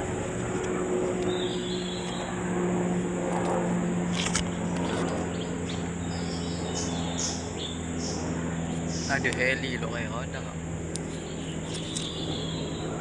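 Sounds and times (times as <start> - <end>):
helicopter drone overhead: 0.0 - 13.0.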